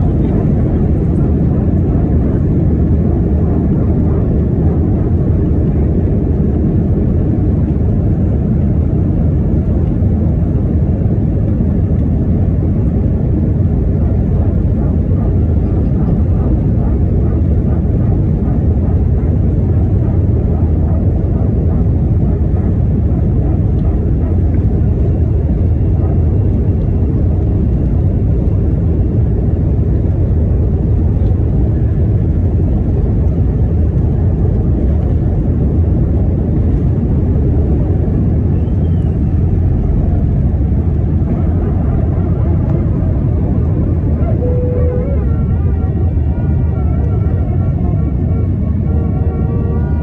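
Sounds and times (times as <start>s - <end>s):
jet engines at takeoff thrust: 0.0s - 50.0s
runway rumble: 0.0s - 50.0s.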